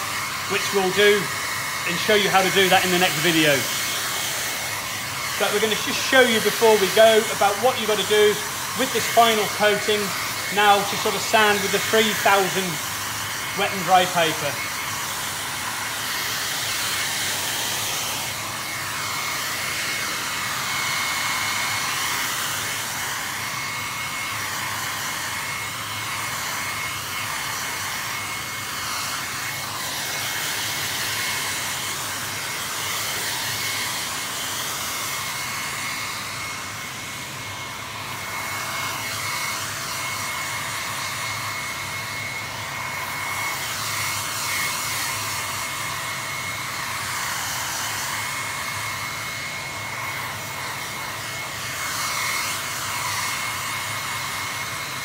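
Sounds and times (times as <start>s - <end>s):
hair dryer blowing: 0.0s - 55.0s.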